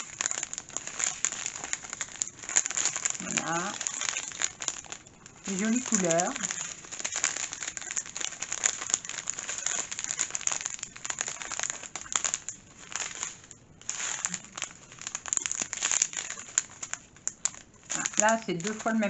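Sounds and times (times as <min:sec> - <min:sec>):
plastic sachets crinkling: 0:00.0 - 0:19.0.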